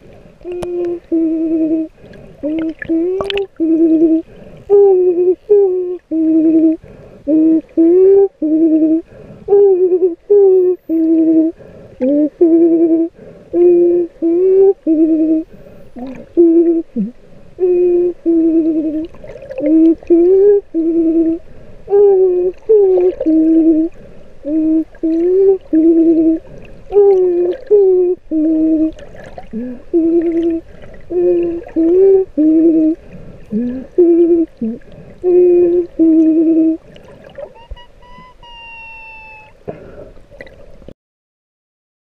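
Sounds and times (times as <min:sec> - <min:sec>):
woman humming underwater: 0:00.0 - 0:40.2.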